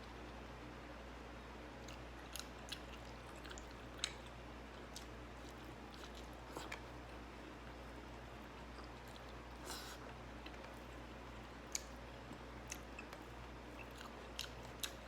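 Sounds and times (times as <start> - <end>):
person chewing food: 1.8 - 15.0.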